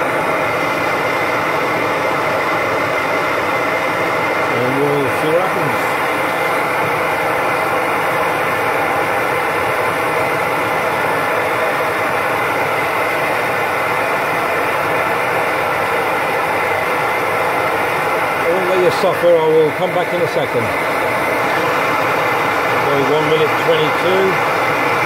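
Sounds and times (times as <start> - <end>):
camping stove roaring: 0.0 - 25.0.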